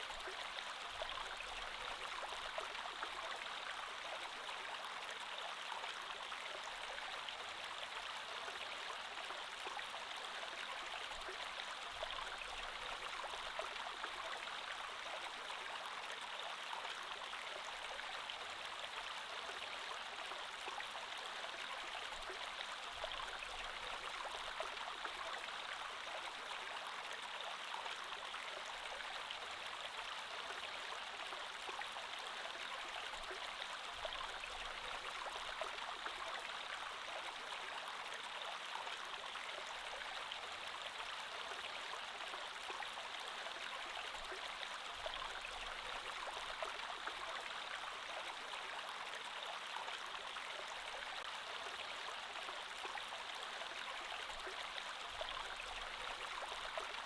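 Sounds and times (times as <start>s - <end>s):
creek water flowing over stones: 0.0s - 57.0s.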